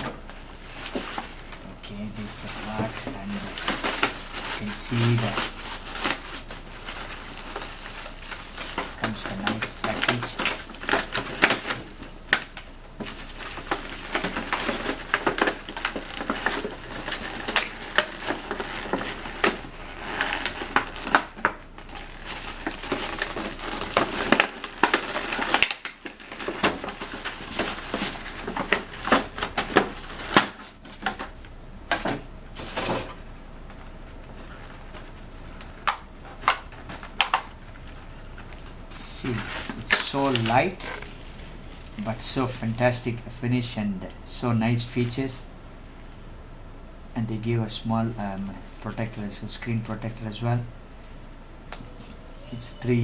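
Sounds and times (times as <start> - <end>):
packaging rustling: 0.0 - 43.2, 48.4 - 50.2.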